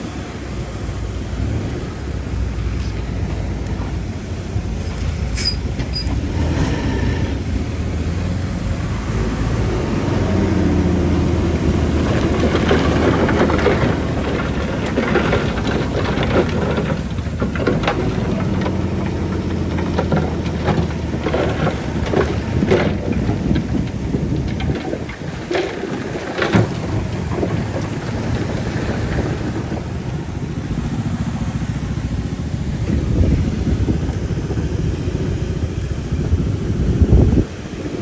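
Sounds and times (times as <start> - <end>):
bulldozer diesel engine: 0.0 - 38.0
steel tracks clanking: 0.0 - 38.0.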